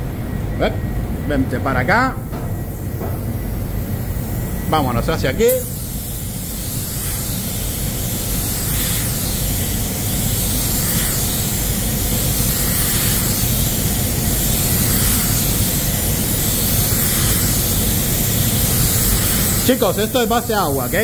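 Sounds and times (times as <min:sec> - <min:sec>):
spray gun hissing: 0:02.2 - 0:21.0.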